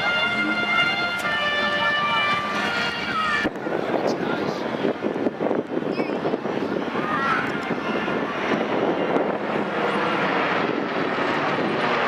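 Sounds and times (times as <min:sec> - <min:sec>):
airplane engines flying past: 0:00.0 - 0:12.0.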